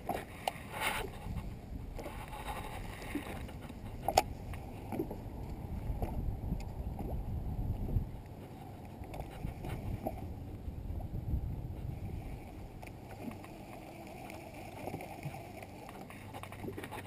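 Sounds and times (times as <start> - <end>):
water sloshing against boat hull: 0.0 - 17.0
wind on microphone: 0.0 - 17.0.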